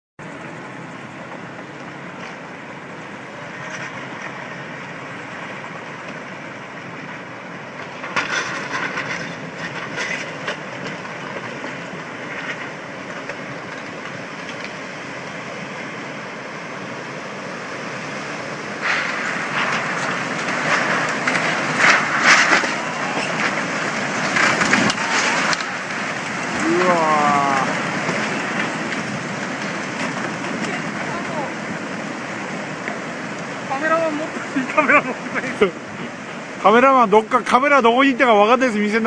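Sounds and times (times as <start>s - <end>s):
floodwater rushing over land: 0.2s - 39.0s.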